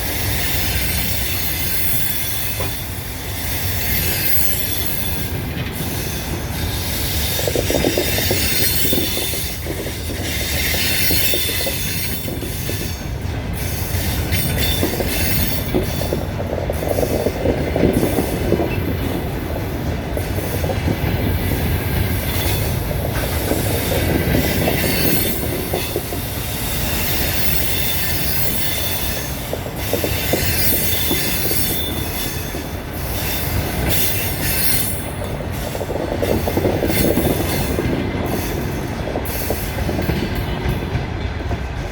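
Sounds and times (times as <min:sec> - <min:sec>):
train wheels squealing on rails: 0:00.0 - 0:41.9
wheels clicking over rail joints: 0:00.0 - 0:41.9.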